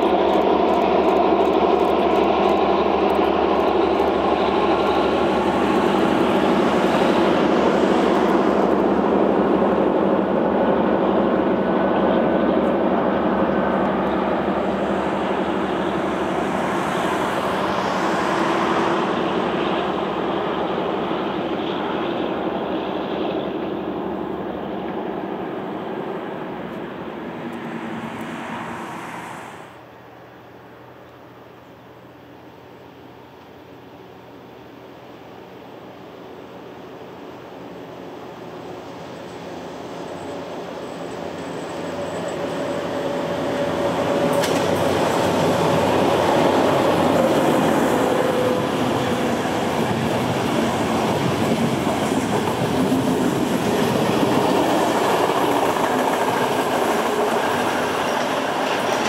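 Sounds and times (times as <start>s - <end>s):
train engine hum: 0.0s - 59.0s
train rolling noise: 0.0s - 59.0s.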